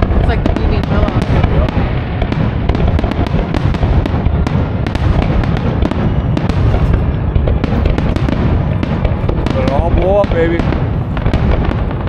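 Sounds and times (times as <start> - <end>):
fireworks booms and crackling: 0.0 - 12.0
heavy low rumble: 0.0 - 12.0.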